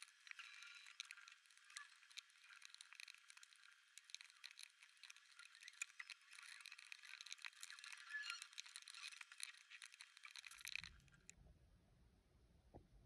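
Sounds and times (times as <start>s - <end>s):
puzzle pieces clicking and rattling: 0.0s - 11.3s.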